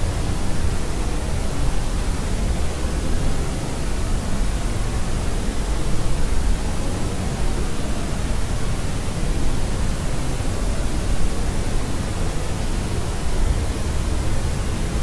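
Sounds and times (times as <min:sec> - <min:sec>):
steady white noise: 0:00.0 - 0:15.0.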